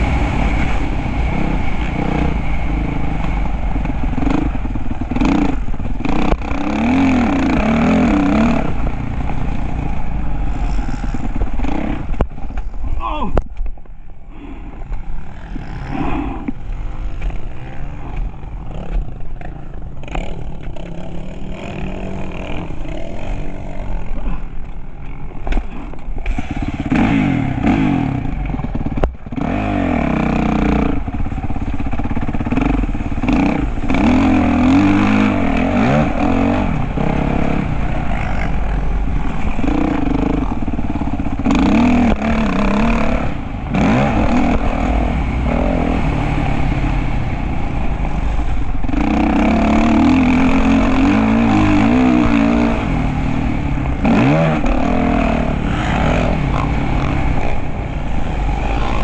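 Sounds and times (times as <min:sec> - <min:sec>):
dirt bike engine revving: 0:00.0 - 0:13.2, 0:14.5 - 0:59.0
low rumble: 0:00.0 - 0:59.0.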